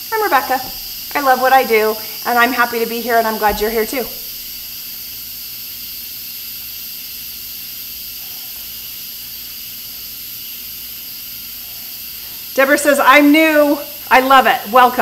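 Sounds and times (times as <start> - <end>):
pressure cooker venting steam: 0.0 - 15.0.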